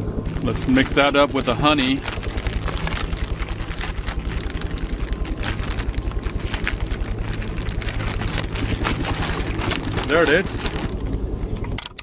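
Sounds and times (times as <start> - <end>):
boat motor humming: 0.0 - 12.0
plastic bag crinkling: 0.2 - 11.2.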